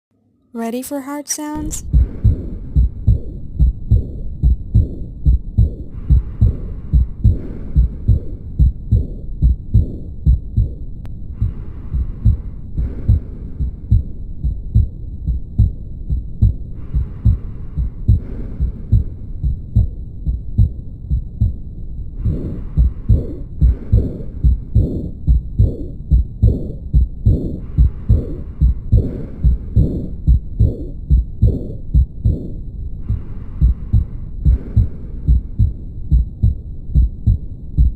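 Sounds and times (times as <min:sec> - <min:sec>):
heartbeat thuds: 0:01.7 - 0:37.9.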